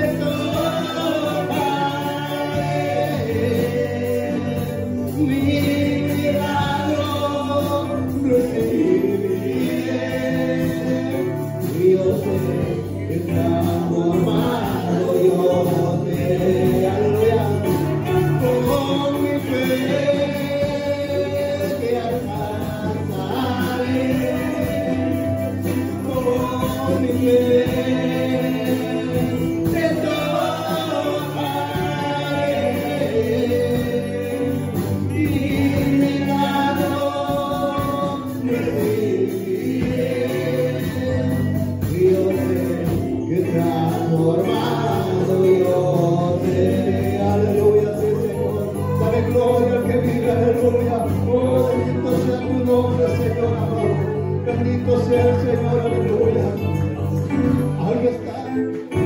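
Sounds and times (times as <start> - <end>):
electric keyboard accompaniment: 0.0 - 59.0
singers holding long lines: 0.0 - 59.0.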